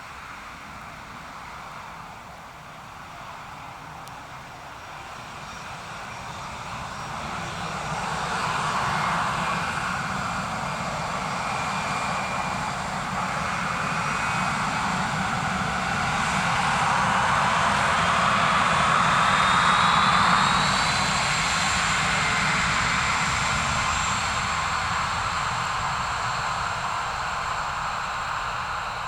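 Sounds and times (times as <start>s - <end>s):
faint engine whine: 0.0s - 29.0s
jet engines running: 0.0s - 29.0s.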